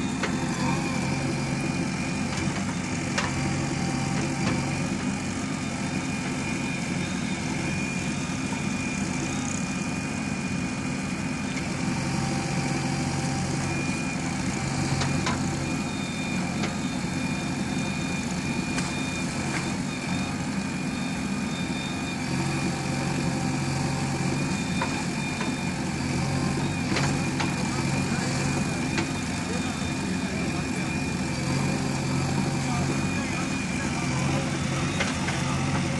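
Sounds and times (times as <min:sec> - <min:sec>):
heavy diesel engines running: 0:00.0 - 0:35.9.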